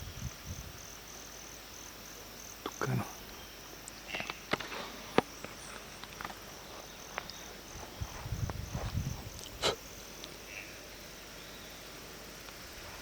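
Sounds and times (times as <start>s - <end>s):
insect trilling: 0.0s - 13.0s.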